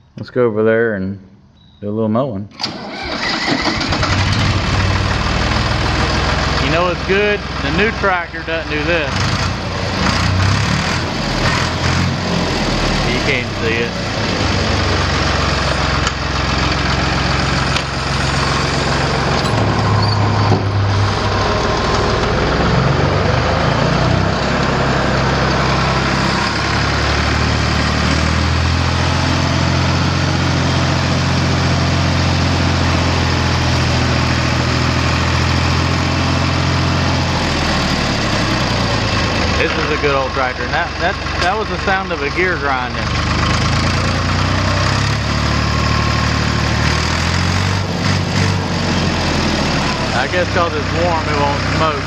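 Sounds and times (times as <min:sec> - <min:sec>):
tractor diesel engine running: 0:02.5 - 0:52.0.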